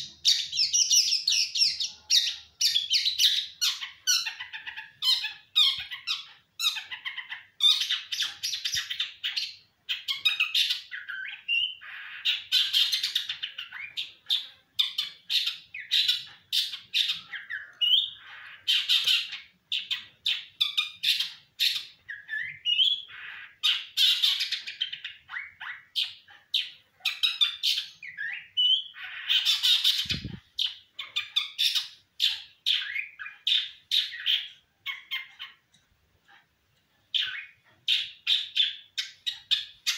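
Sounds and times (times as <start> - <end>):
songbird singing: 0.0 - 35.8, 37.1 - 39.9.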